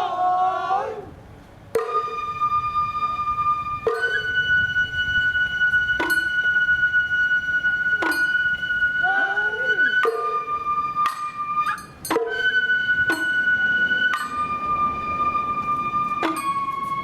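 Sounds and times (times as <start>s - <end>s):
sharp percussion strikes: 1.7s - 17.0s
bamboo flute long high notes: 1.8s - 17.0s.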